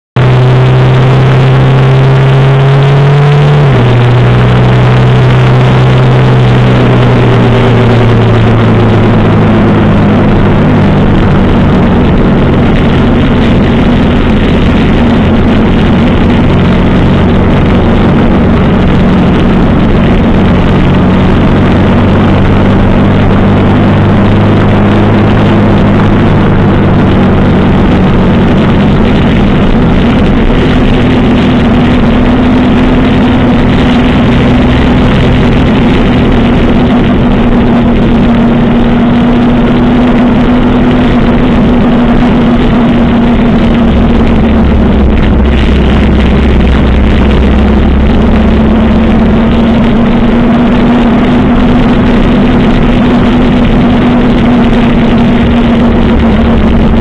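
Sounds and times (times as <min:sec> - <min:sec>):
motorcycle engine running: 0:00.0 - 0:57.0
road noise: 0:00.0 - 0:57.0
wind noise: 0:00.2 - 0:57.0.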